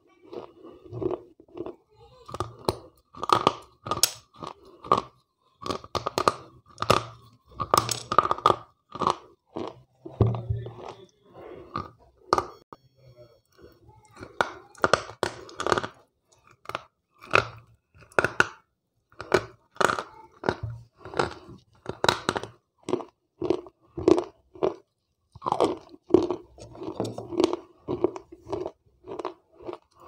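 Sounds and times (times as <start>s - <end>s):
gritty chewing: 0.1s - 12.6s, 14.2s - 30.0s.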